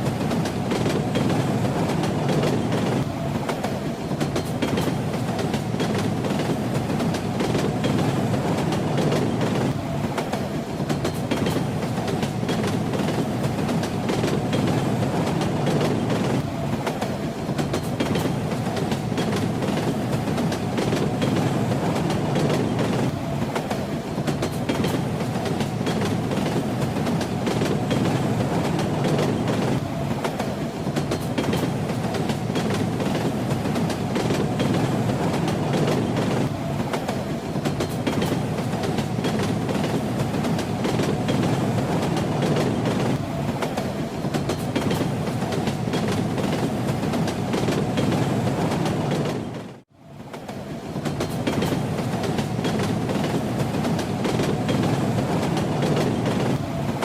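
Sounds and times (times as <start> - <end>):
train rumbling: 0.0 - 57.0
train wheels clattering over rails: 0.0 - 57.0.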